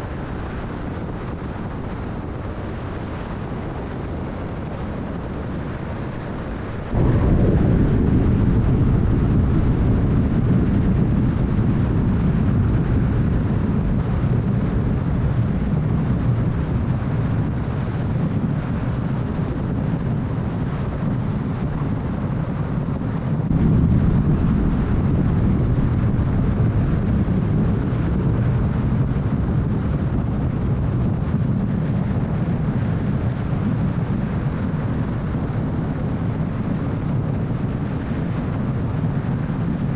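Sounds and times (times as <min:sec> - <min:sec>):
road and wind noise: 0:00.0 - 0:39.9.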